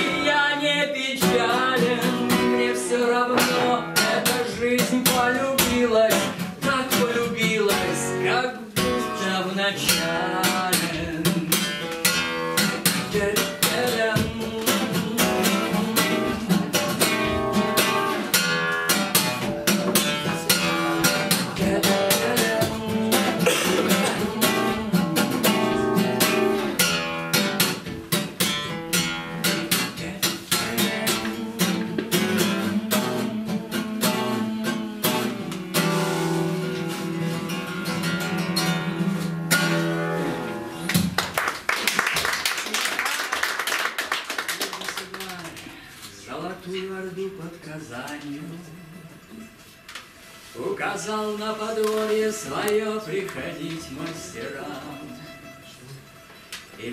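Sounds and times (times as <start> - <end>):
acoustic guitar strummed: 0.0 - 41.2, 48.5 - 56.9.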